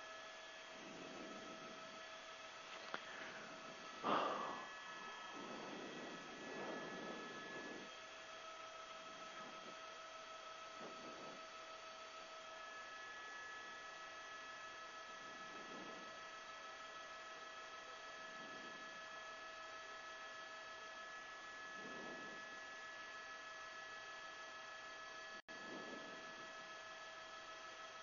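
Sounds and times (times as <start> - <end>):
electrical hum and hiss: 0.0 - 28.0.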